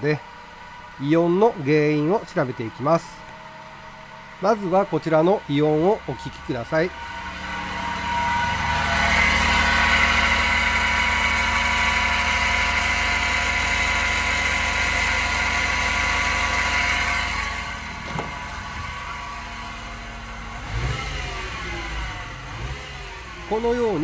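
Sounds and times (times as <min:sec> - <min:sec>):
truck engine running: 0:00.0 - 0:24.0
groaning whine: 0:04.6 - 0:24.0.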